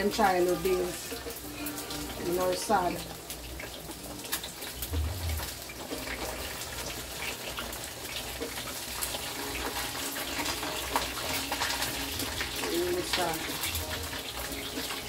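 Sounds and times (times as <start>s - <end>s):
chicken sizzling in oil: 0.0s - 15.0s
water boiling in pot: 0.0s - 15.0s.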